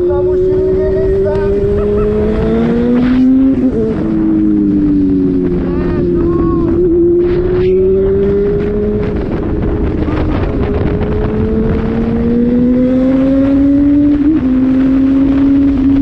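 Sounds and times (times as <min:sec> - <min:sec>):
motorcycle engine accelerating: 0:00.0 - 0:16.0
wind rushing past microphone: 0:00.0 - 0:16.0.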